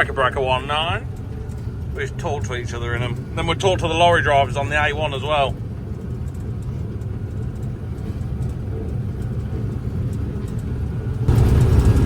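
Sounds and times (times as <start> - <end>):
combine harvester engine rumble: 0.0 - 12.0.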